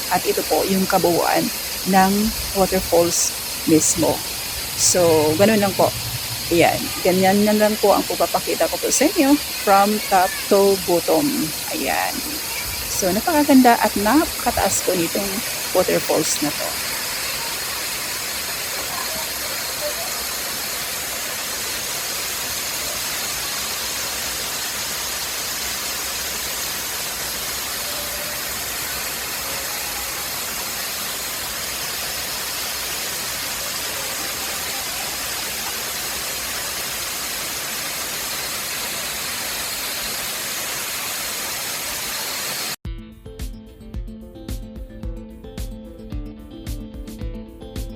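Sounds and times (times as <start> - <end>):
waterfall rushing: 0.0 - 42.8.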